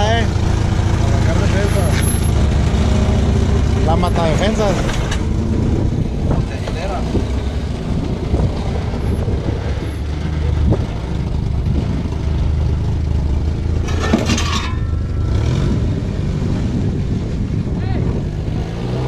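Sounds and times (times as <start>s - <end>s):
harsh scraping: 0.0s - 12.3s, 13.5s - 17.5s
car engine running at low revs: 0.0s - 19.0s.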